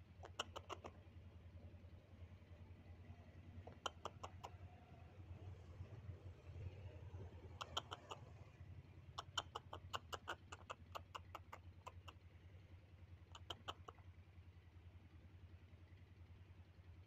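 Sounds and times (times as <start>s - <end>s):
faint low engine hum: 0.0s - 17.0s.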